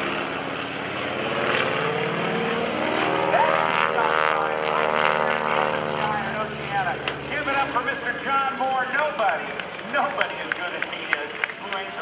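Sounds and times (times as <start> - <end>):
biplane radial engine and propeller: 0.0 - 12.0.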